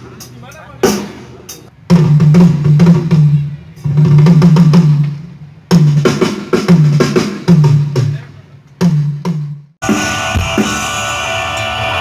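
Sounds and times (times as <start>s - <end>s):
drum kit: 0.0s - 12.0s.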